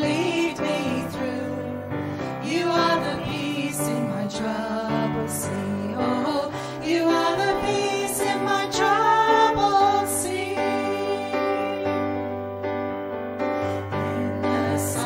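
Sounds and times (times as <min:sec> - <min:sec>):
voices singing: 0:00.0 - 0:12.3, 0:14.0 - 0:15.0
sustained instrumental backing: 0:00.0 - 0:15.0.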